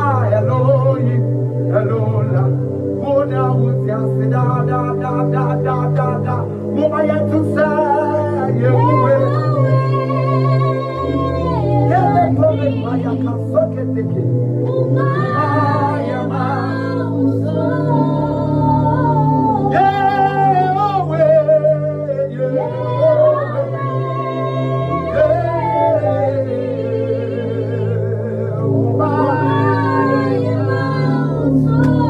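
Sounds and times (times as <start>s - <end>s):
person singing worship melody: 0.0s - 32.0s
sustained backing chords: 0.0s - 32.0s.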